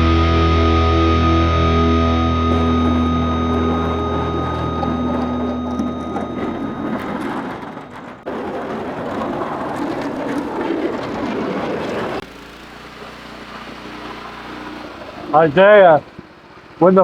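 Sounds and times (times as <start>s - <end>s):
snowplow engines under load: 0.0s - 17.0s
steady engine hum: 0.0s - 17.0s.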